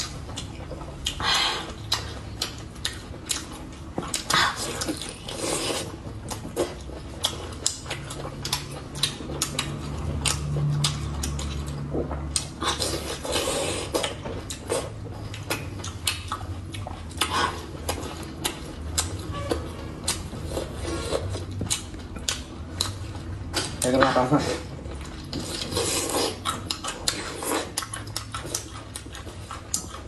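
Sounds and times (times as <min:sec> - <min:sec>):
close-up chewing and mouth clicks: 0:00.0 - 0:30.0.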